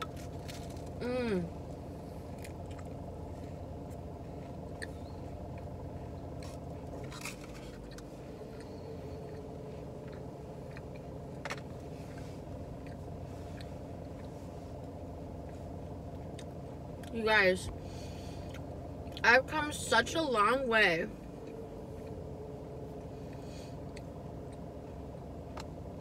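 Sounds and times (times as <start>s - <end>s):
low hum inside car: 0.0s - 26.0s
close chewing with mouth clicks: 1.6s - 19.2s, 21.2s - 25.8s.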